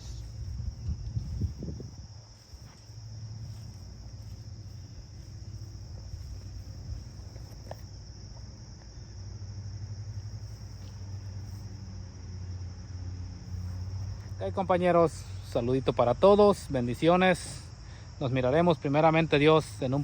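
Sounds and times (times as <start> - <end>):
low steady rumble: 0.0 - 16.9
crickets chirping: 0.0 - 20.0.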